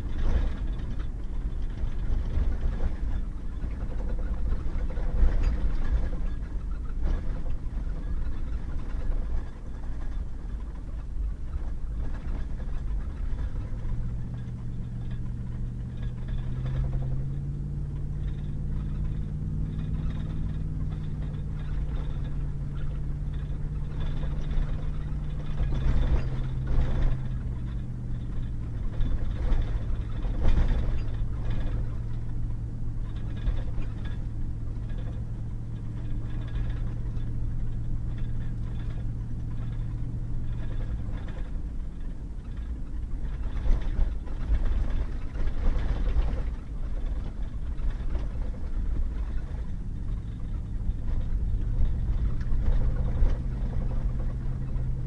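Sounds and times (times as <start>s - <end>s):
knocks and rattles: 0.0s - 55.0s
truck engine hum: 0.0s - 55.0s.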